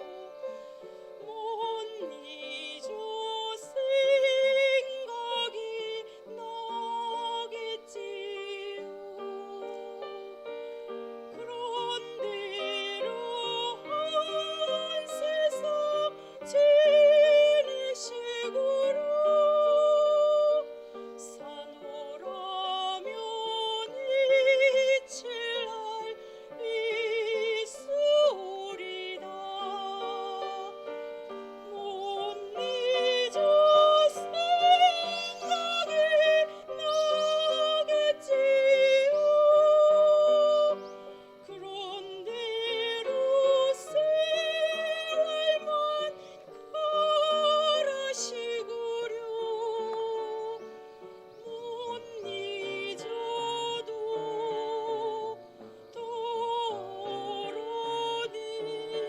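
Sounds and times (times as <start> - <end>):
woman singing soprano: 0.0 - 59.0.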